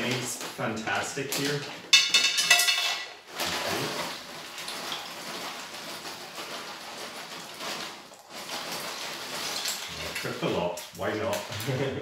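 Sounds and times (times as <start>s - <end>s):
boiling water hissing and pattering: 0.0s - 12.0s.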